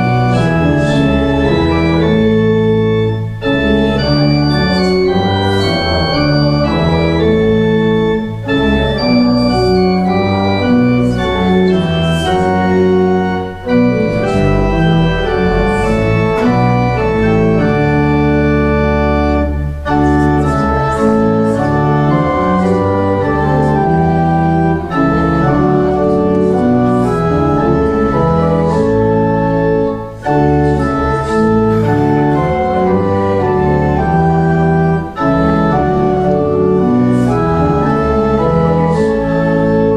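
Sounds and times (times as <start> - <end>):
church organ playing a hymn: 0.0 - 39.9.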